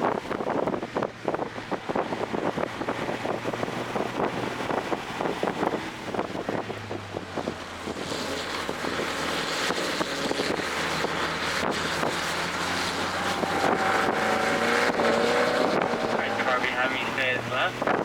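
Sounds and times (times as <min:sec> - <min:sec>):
car engine running hard: 0:00.0 - 0:18.0
wind and road noise: 0:00.0 - 0:18.0.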